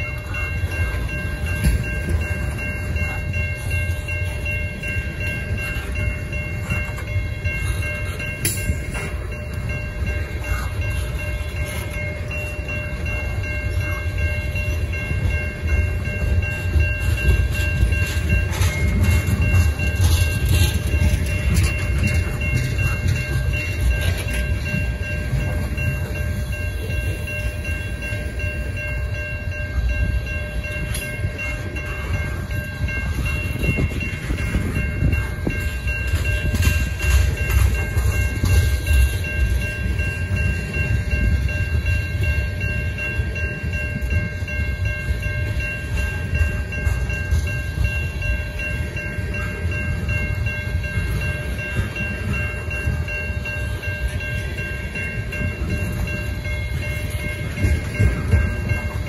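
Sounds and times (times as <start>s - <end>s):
crossing bell ringing: 0.0s - 59.0s
freight train rumbling: 0.0s - 59.0s
wheels clanking on rail: 0.0s - 59.0s.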